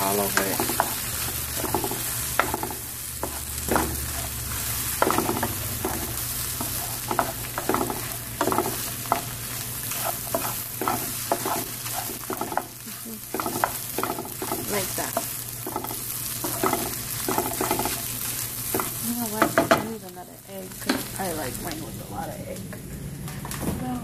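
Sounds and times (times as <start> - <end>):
food sizzling in oil: 0.0 - 22.4.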